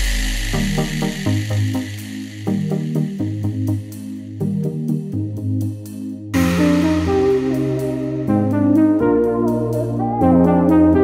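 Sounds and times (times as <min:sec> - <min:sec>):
electronic music with held notes: 0:00.0 - 0:11.0.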